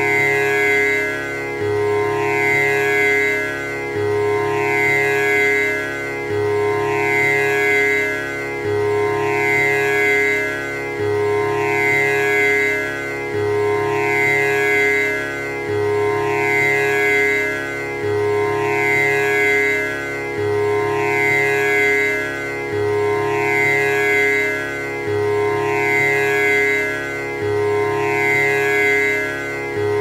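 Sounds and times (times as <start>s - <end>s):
tanpura drone: 0.0s - 30.0s.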